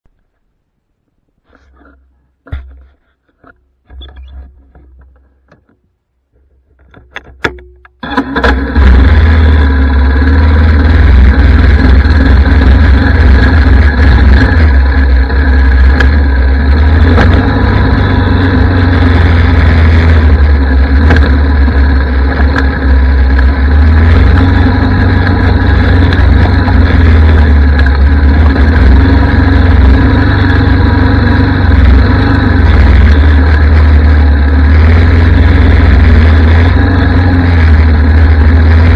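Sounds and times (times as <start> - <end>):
quad bike engine running: 7.0 - 38.9.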